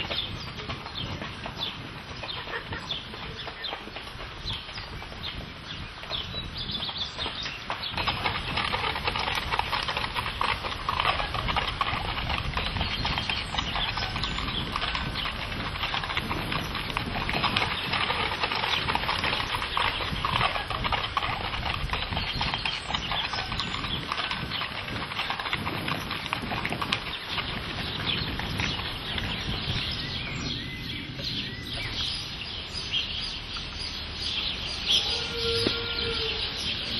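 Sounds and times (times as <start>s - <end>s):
horse hooves clopping: 0.0s - 36.9s.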